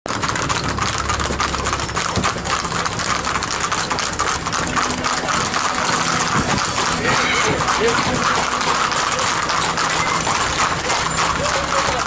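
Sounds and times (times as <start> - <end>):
horse hooves clip-clopping on pavement: 0.1 - 12.0.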